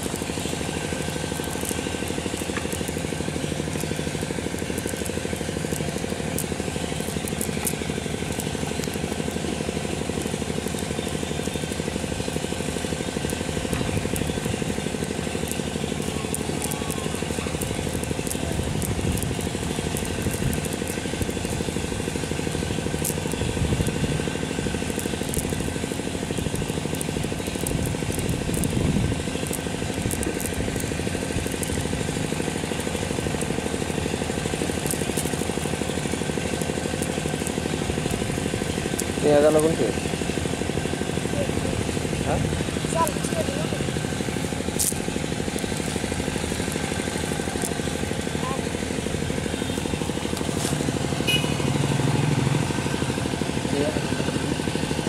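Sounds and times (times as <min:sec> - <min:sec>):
engine running with fast chug: 0:00.0 - 0:55.0.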